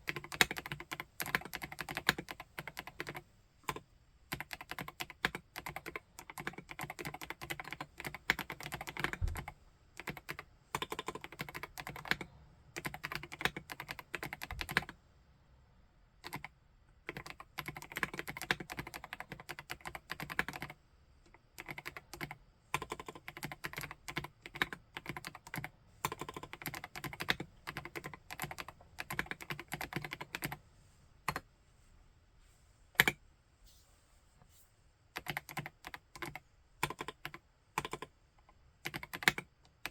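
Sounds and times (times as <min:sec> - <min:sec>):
typing on mechanical keyboard: 0:00.0 - 0:15.0, 0:16.2 - 0:20.8, 0:21.5 - 0:30.6, 0:35.2 - 0:38.1, 0:38.8 - 0:39.9.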